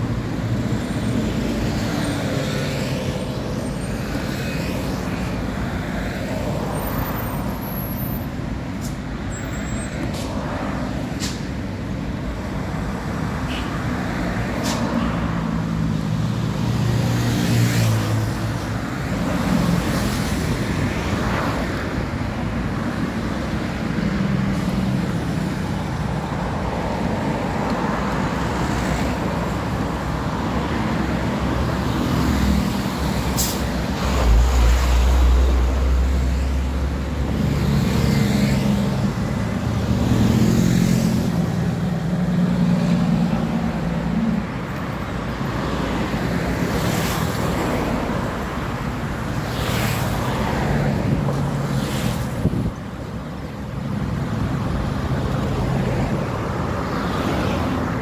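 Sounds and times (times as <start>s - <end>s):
highway traffic rushing: 0.0s - 58.0s.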